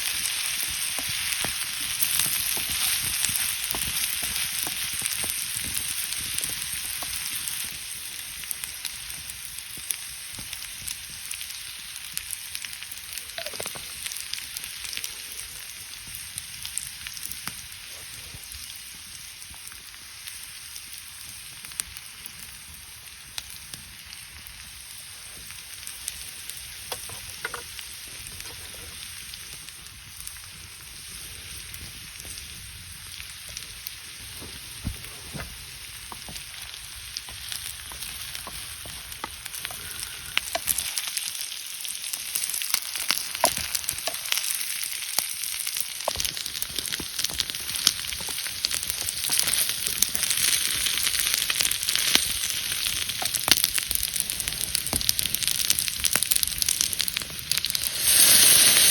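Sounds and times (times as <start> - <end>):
fire popping and crackling: 0.0 - 58.9
food sizzling in a pan: 0.0 - 58.9.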